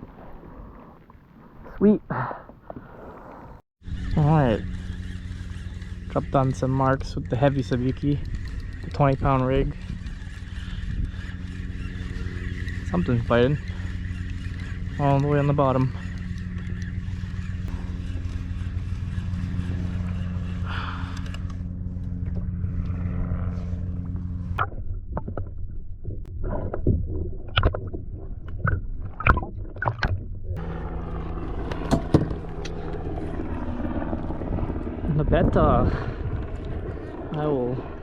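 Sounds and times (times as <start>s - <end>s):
steady low hum: 3.1s - 38.0s.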